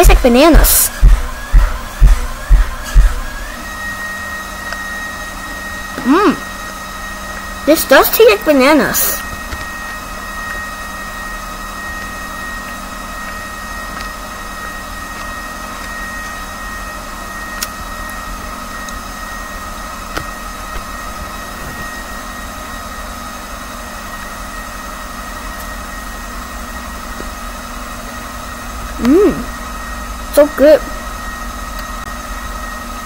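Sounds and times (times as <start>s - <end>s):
machine hum with high whine: 0.0s - 33.0s.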